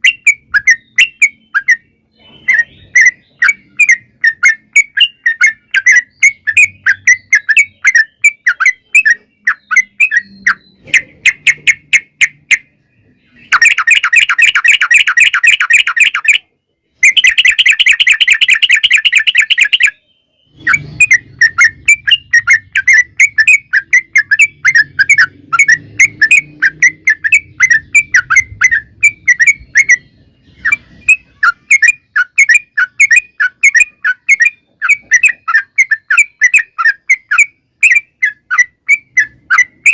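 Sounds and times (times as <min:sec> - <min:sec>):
bulbul chirpy song: 0:00.0 - 0:39.9.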